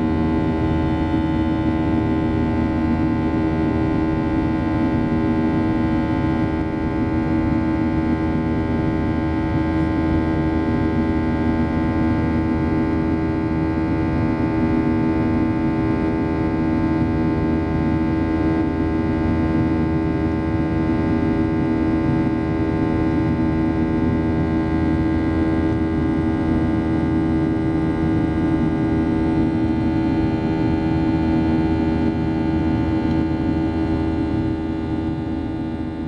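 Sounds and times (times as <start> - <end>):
jet engine cabin drone: 0.0 - 36.0
steady humming tones: 0.0 - 36.0.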